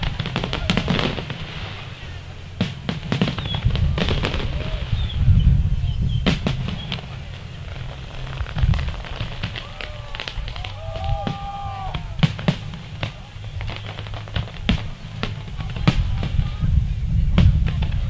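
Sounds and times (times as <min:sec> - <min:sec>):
fireworks bangs and crackles: 0:00.0 - 0:18.0
low rumble: 0:00.0 - 0:18.0.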